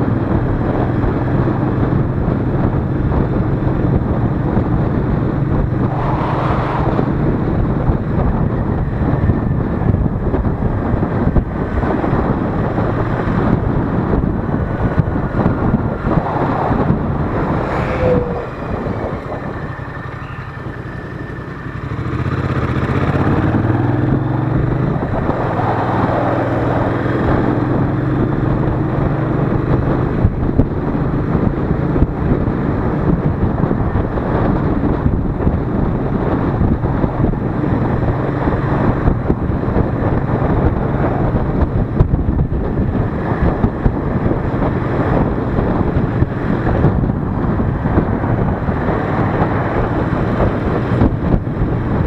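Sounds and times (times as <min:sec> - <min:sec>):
motorcycle engine and exhaust: 0:00.0 - 0:52.0
wind rushing over microphone: 0:00.0 - 0:52.0.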